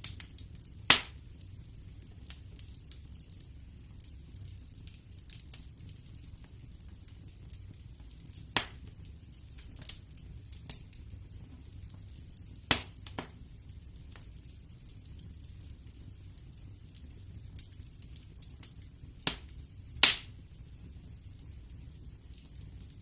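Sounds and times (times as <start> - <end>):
sharp pops from burning wood: 0.0 - 23.0
wood fire crackling: 0.0 - 23.0.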